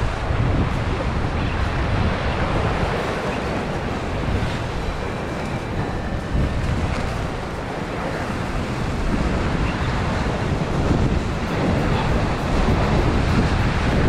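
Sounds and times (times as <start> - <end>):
sea waves rushing: 0.0 - 14.0
wind buffeting microphone: 0.0 - 14.0.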